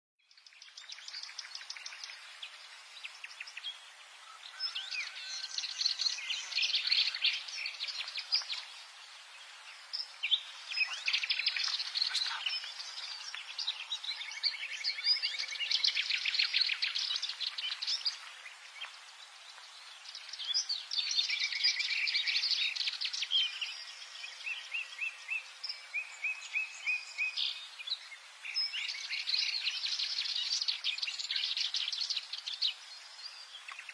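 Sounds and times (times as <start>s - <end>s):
warbler singing: 0.2s - 33.9s.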